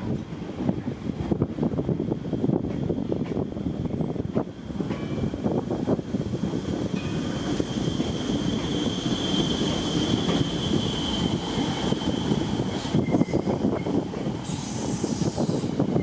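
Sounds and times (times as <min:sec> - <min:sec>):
train rumble and wheel clicks: 0:00.0 - 0:16.0.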